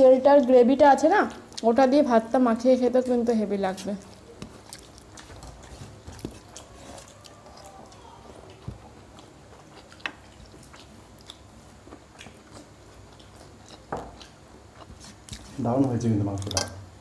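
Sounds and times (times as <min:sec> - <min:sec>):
people chewing food: 0:01.2 - 0:01.8, 0:02.9 - 0:17.0.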